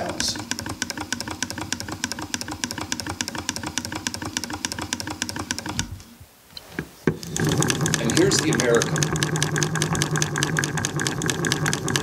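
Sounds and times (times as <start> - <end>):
hand-cranked sewing machine ticking: 0.0 - 5.9, 7.1 - 12.0.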